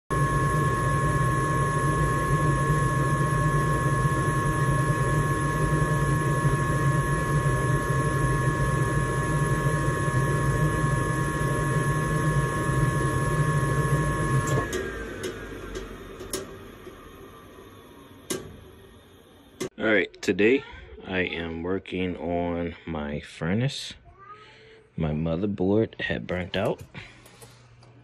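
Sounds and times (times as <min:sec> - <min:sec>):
gas furnace rushing hum: 0:00.1 - 0:20.5, 0:24.5 - 0:28.0
thin steady whine: 0:00.1 - 0:22.7.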